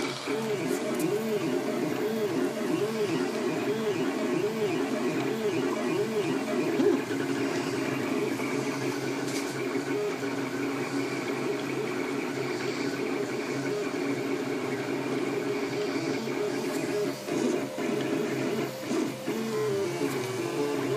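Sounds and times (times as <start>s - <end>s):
steady high hum: 0.0s - 20.9s
stepper motors whining: 0.0s - 20.9s.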